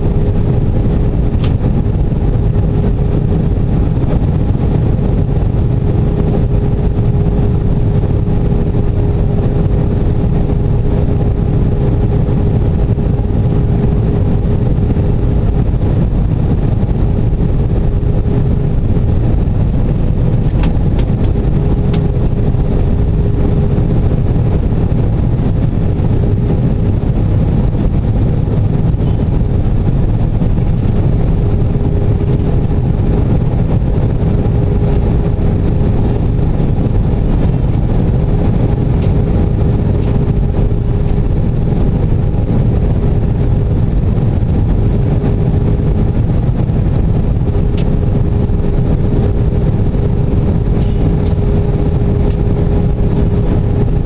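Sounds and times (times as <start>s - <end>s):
airliner cabin engine roar: 0.0s - 54.0s
steady cabin hum: 0.0s - 54.0s.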